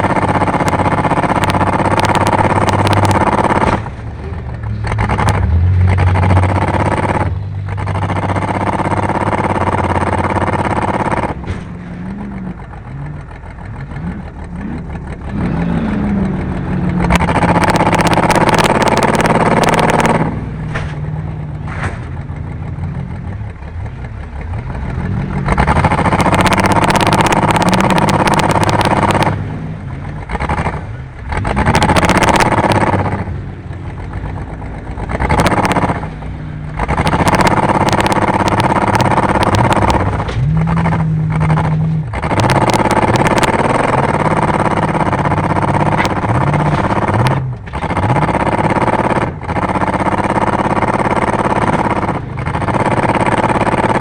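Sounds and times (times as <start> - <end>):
car engine revving: 0.0 - 54.0
knocks and clatter: 0.0 - 54.0.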